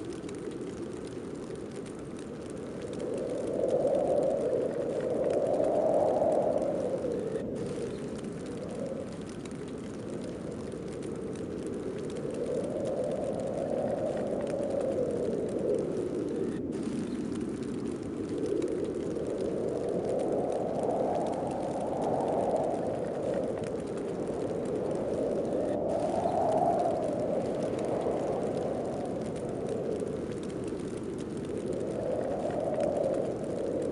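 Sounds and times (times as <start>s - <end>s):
snowstorm wind gusting: 0.0s - 33.9s.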